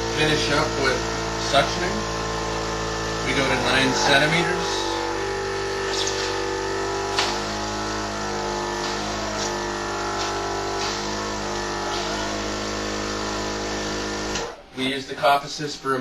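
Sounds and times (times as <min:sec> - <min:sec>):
machine blower hum: 0:00.0 - 0:16.0.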